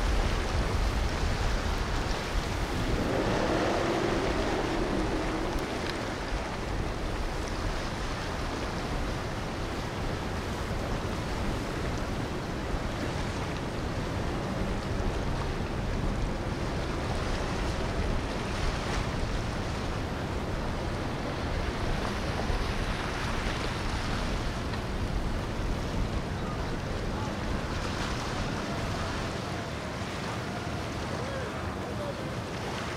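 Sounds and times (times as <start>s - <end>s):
wind noise on microphone: 0.0s - 29.4s
water washing: 0.0s - 30.2s
boat engines passing: 0.0s - 32.9s.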